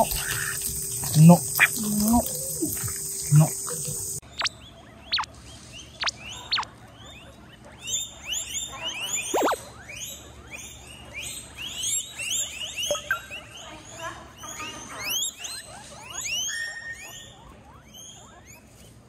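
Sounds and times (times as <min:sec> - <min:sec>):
guinea pigs wheeking: 0:00.0 - 0:19.0.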